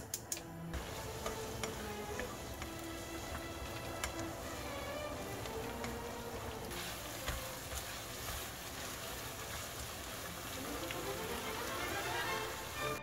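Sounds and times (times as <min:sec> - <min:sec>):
food sizzling in hot oil: 0:00.8 - 0:13.0.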